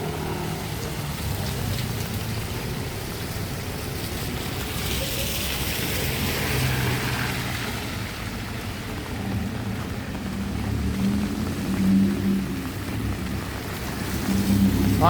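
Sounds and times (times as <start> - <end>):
steady rain falling: 0.0 - 15.0
traffic hum: 0.0 - 15.0.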